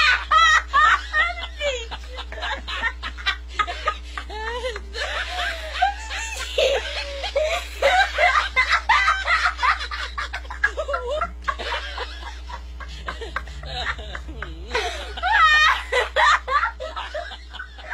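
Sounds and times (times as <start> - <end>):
low hum: 0.0 - 17.9
people laughing: 0.0 - 17.9.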